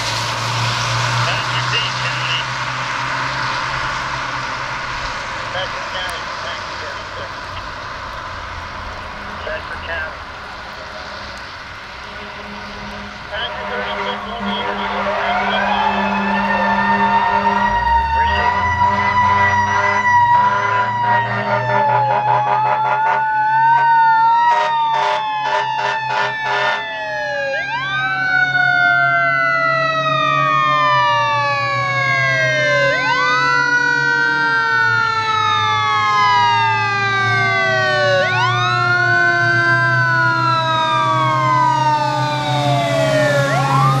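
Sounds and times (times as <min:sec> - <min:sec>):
fire truck siren: 0:00.0 - 0:44.0.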